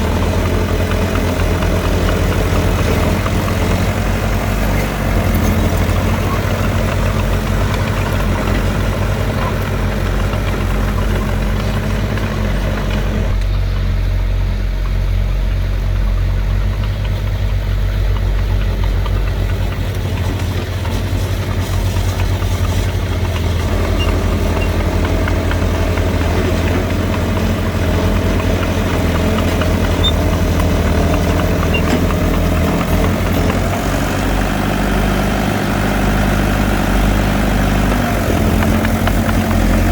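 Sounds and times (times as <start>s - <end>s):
heavy diesel engine running: 0.0s - 39.9s
higher mechanical noise: 0.0s - 39.9s.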